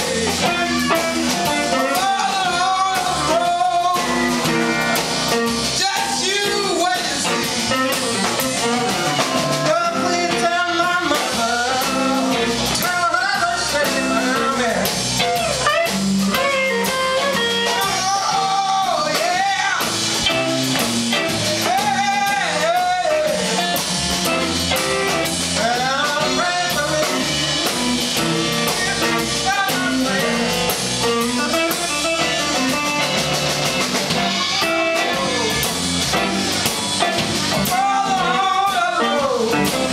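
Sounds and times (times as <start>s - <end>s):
man singing: 0.0s - 15.2s, 15.8s - 33.3s, 33.9s - 36.3s, 37.0s - 39.9s
bass guitar: 0.0s - 39.9s
drums: 0.0s - 39.9s
electric guitars: 0.0s - 39.9s.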